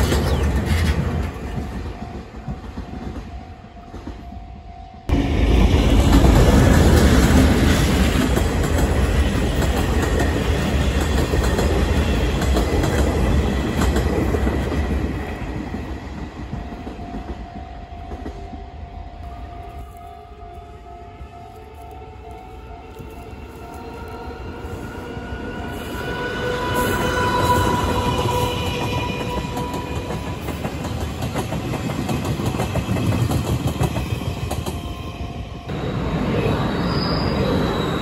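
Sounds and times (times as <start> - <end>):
distant electric train: 0.0 - 38.0
train passing on rails: 0.0 - 38.0.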